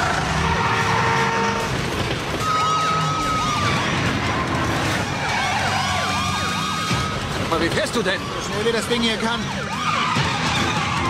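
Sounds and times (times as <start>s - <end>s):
action music: 0.0s - 11.0s
car engines and tyres: 0.0s - 11.0s
police sirens wailing: 0.0s - 11.0s.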